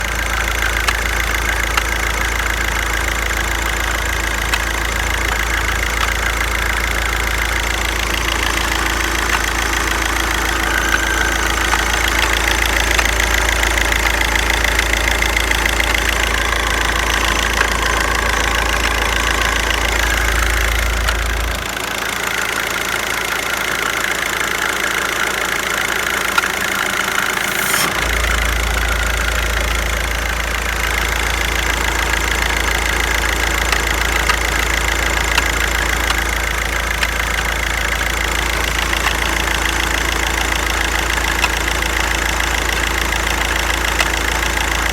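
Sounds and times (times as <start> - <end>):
diesel engine idling with knock: 0.0 - 44.9.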